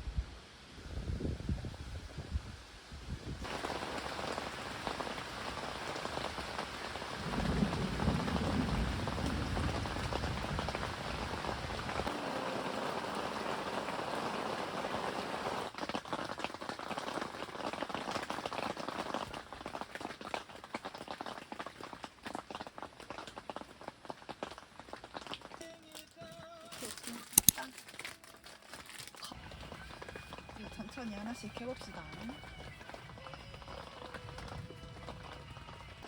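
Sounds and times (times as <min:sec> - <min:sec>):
rain pattering: 0:03.4 - 0:36.0.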